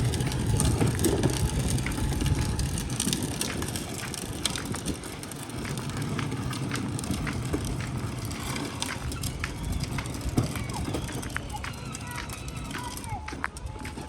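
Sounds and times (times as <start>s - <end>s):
crunching and crackling clicks: 0.0s - 14.0s.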